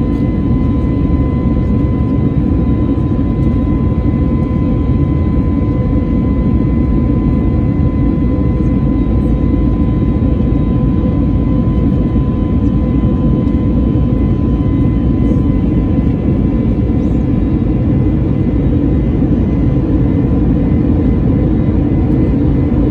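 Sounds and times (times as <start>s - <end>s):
jet engine deep roar: 0.0s - 22.9s.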